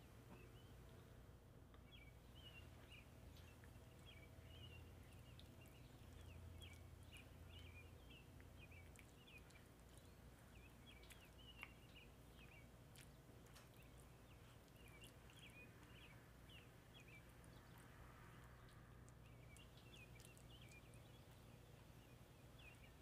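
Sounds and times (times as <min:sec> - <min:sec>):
faint bird chirping: 0:00.0 - 0:23.0
low hum: 0:00.0 - 0:23.0.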